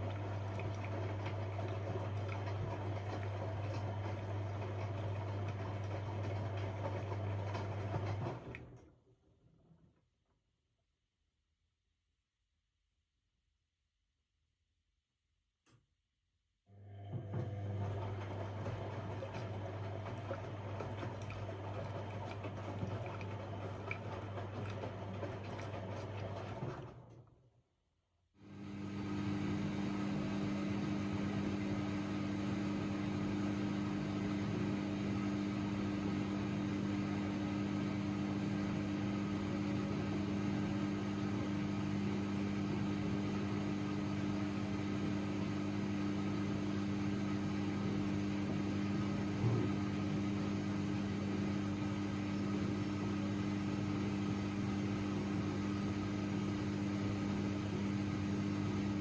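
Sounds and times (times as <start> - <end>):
washing machine humming: 0.0 - 9.0, 16.8 - 27.2, 28.4 - 59.0.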